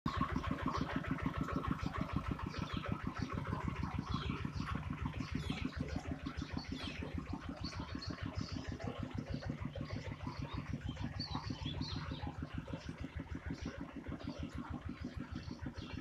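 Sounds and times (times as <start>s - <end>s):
small engine idling: 0.1s - 16.0s
faint bird chirps: 0.2s - 16.0s.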